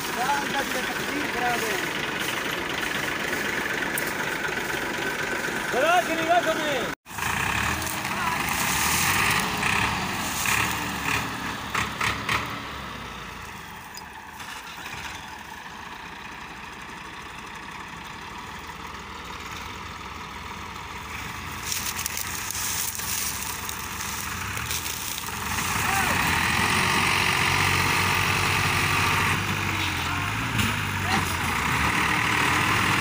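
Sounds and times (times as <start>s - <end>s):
tractor diesel engines droning: 0.0s - 33.0s.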